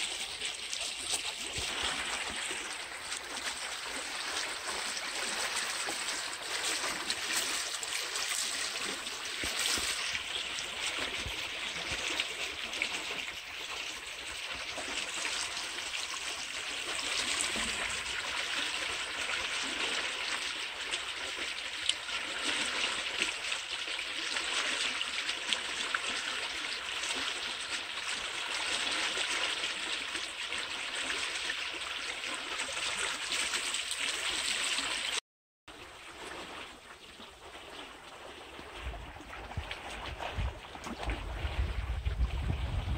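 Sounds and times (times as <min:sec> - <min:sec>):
canal water flowing: 0:00.0 - 0:42.9.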